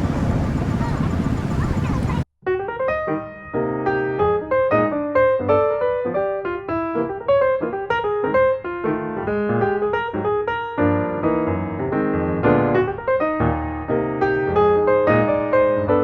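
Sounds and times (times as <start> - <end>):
piano over bass line: 0.0 - 16.0.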